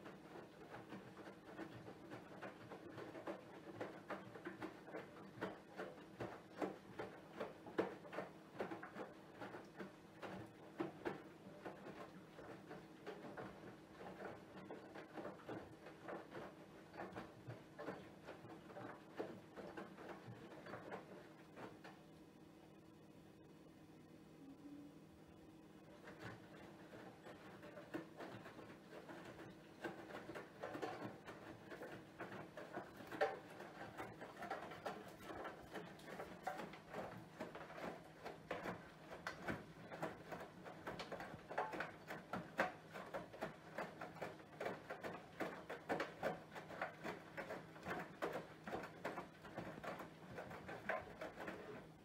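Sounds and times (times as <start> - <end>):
laundry sloshing in drum: 0.0 - 22.9, 25.3 - 52.0
faint motor hum: 0.0 - 52.0.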